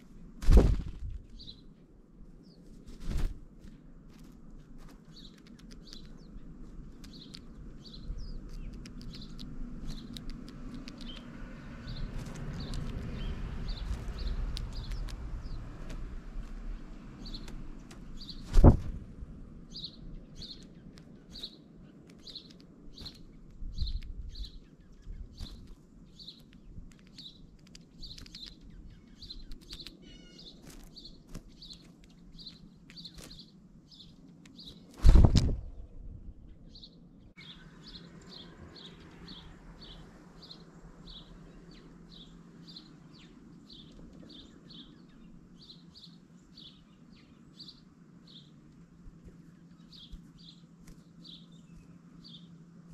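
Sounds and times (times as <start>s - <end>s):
small songbird chirping: 0.0s - 2.8s, 4.2s - 18.8s, 19.6s - 34.9s, 35.8s - 52.9s.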